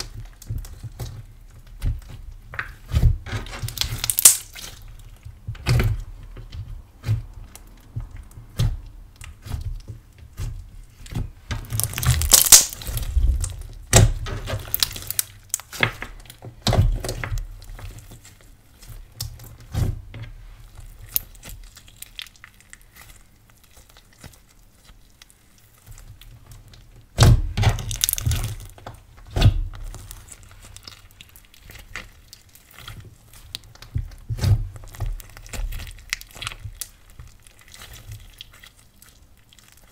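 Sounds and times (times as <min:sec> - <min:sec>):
slime crackling and squelching: 0:00.0 - 0:39.9.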